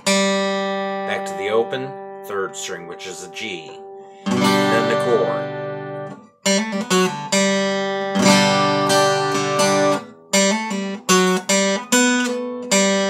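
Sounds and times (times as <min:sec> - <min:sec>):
acoustic guitar chord ringing: 0:00.0 - 0:13.0
picked guitar notes: 0:00.0 - 0:13.0.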